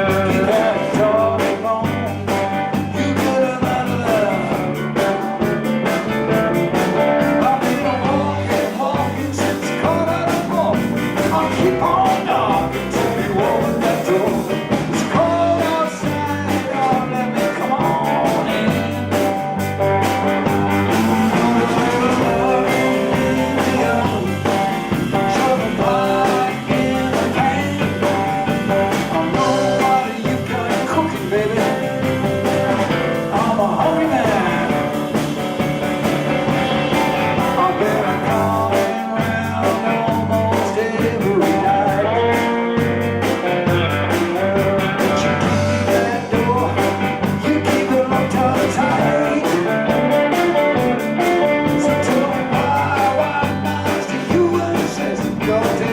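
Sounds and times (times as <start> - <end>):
bass line: 0.0 - 55.9
drums: 0.0 - 55.9
guitar lead with bending notes: 0.0 - 55.9.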